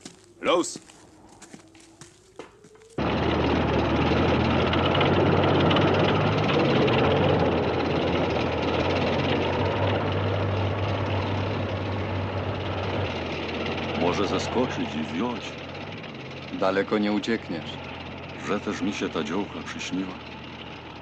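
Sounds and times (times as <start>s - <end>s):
tank engine and tracks: 0.0s - 21.0s.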